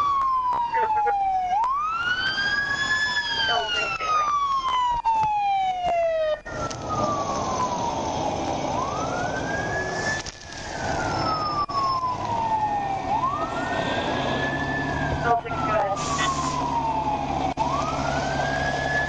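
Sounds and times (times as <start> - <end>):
siren tone sliding down: 0.0 - 19.0
siren wailing: 0.0 - 19.0.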